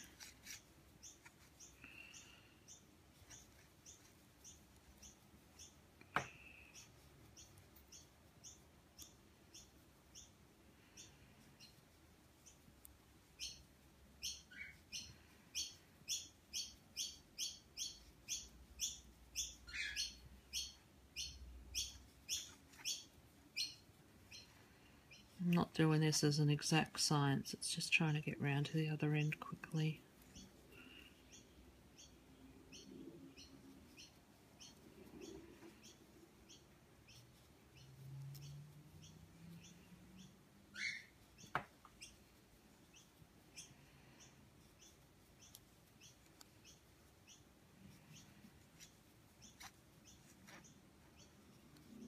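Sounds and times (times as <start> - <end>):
bird chirping: 0.0 - 11.8, 13.4 - 25.6, 28.1 - 52.0.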